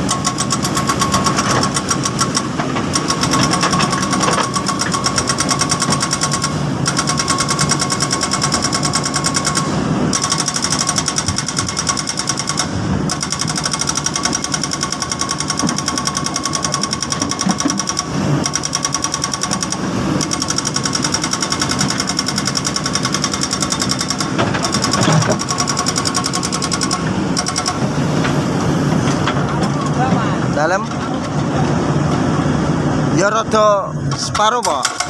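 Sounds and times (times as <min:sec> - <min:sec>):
excavator diesel engine running hard: 0:00.0 - 0:35.0
hydraulic whine: 0:00.0 - 0:35.0.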